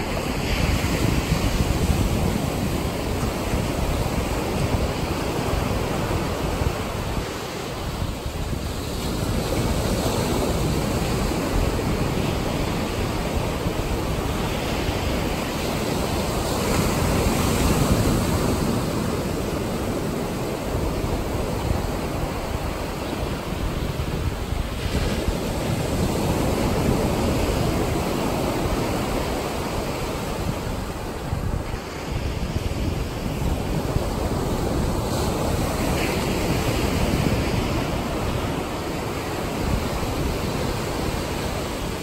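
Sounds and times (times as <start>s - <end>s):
waves breaking on sand: 0.0s - 42.0s.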